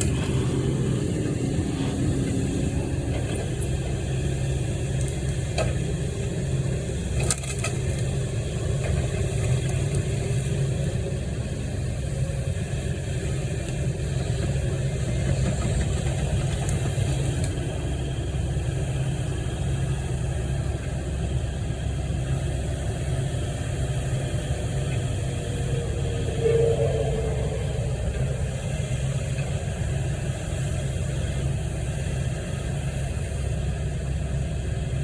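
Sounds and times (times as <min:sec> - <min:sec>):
engine idling: 0:00.0 - 0:35.0.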